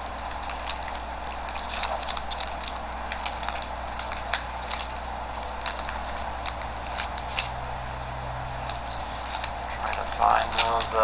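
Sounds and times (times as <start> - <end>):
cards rustling: 0.0 - 7.6, 8.6 - 11.0
foil wrapper crinkling and tearing: 0.0 - 7.6, 8.6 - 11.0.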